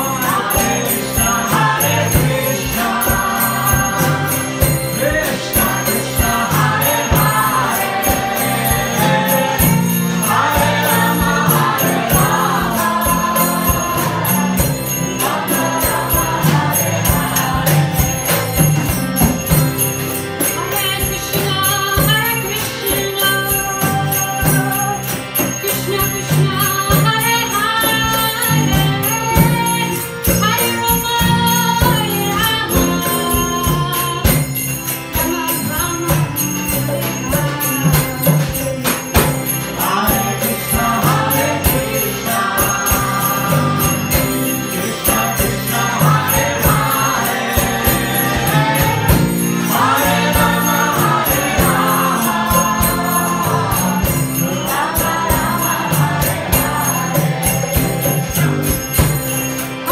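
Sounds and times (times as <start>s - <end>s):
jingling percussion: 0.0s - 59.9s
live band with drums and guitars: 0.0s - 59.9s
sung vocals: 0.0s - 59.9s.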